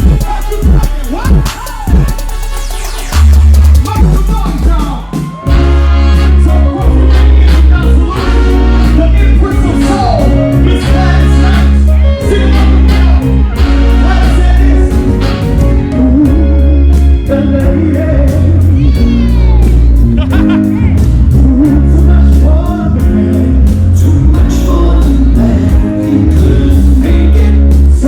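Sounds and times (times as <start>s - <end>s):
heavy bass line: 0.0s - 28.0s
steady drum beat: 0.0s - 28.0s
person singing: 5.2s - 28.0s.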